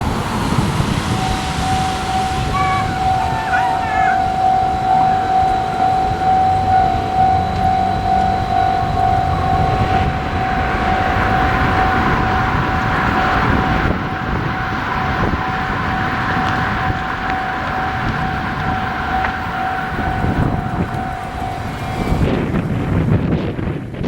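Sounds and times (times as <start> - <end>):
railroad crossing warning bell: 0.0 - 23.8
train passing: 0.0 - 24.0.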